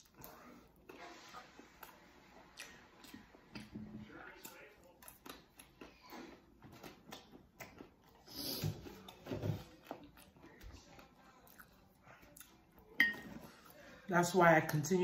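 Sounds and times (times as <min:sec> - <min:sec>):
person chewing food: 0:00.0 - 0:13.9.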